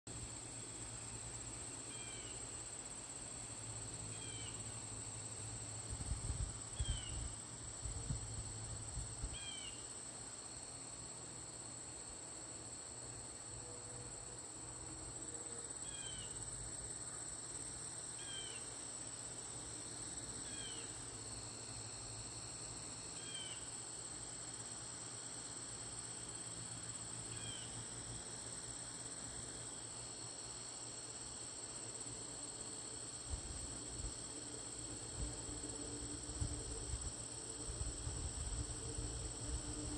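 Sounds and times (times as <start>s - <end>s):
insects droning: 0.1s - 39.9s.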